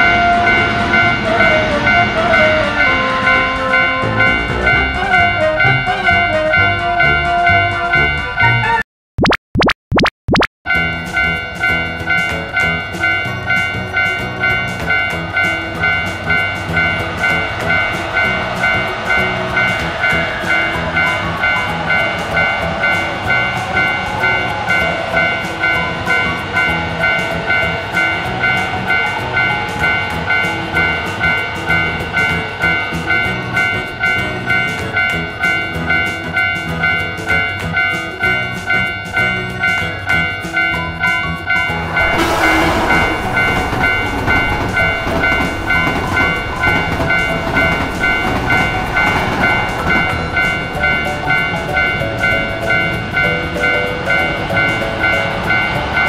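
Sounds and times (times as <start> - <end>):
electric train passing: 0.0 - 8.7, 10.7 - 56.0
railroad crossing bell clanging: 0.0 - 8.7, 10.7 - 56.0.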